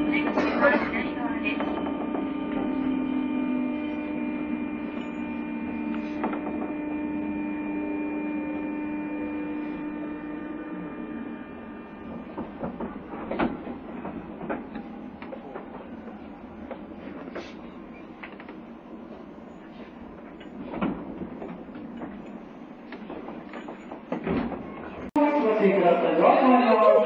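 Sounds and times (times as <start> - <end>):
electric train motor whine: 0.0 - 26.0
train ride rumble: 0.0 - 27.0.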